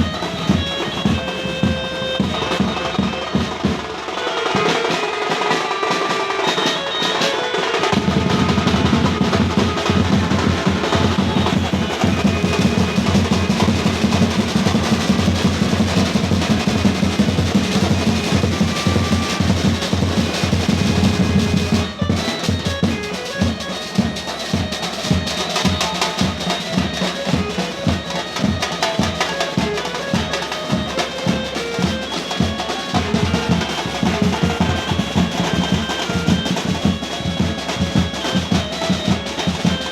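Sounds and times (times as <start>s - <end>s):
music with heavy drumming: 0.0s - 39.9s.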